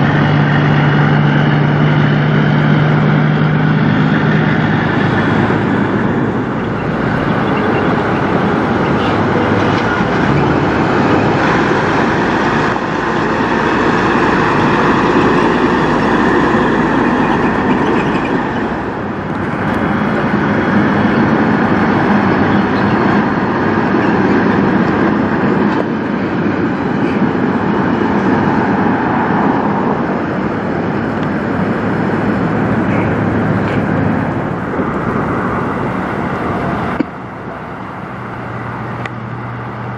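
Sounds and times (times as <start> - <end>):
truck diesel engines droning: 0.0 - 39.9.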